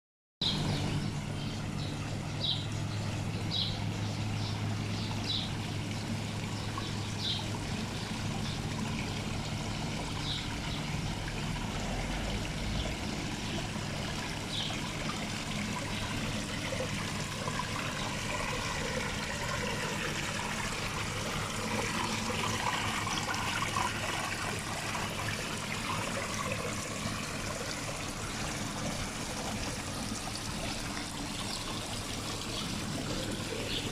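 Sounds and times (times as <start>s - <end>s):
water trickling in stream: 0.4s - 33.9s.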